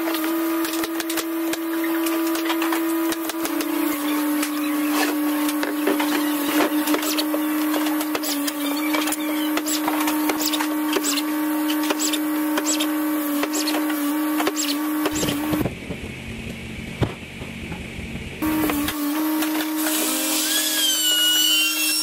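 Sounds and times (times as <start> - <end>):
power tool motor whining: 0.0 - 15.6, 18.4 - 22.0.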